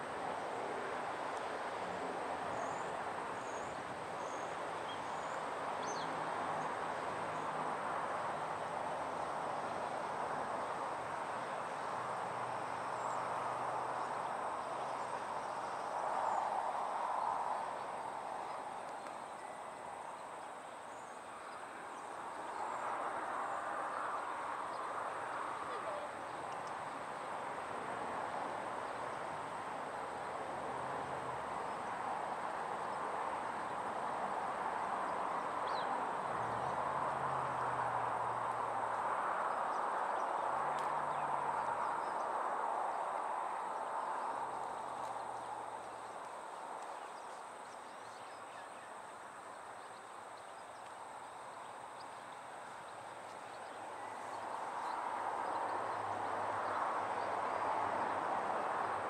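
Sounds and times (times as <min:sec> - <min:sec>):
steady outdoor hiss: 0:00.0 - 0:59.0.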